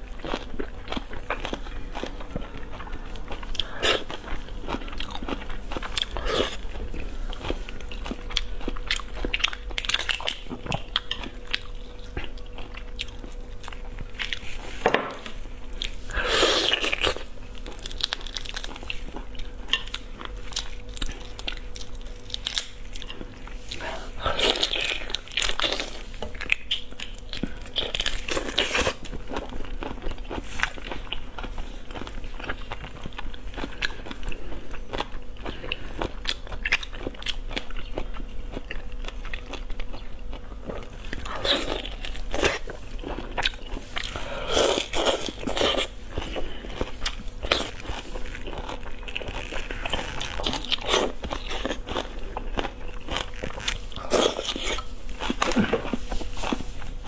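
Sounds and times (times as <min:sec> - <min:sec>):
crunching and chewing shrimp: 0:00.0 - 0:57.0
faint steady hum: 0:00.0 - 0:57.0.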